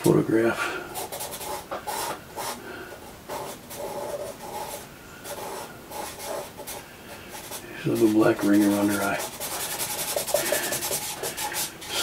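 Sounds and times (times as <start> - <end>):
pencil scratching on paper: 0.9 - 2.6, 3.3 - 12.0.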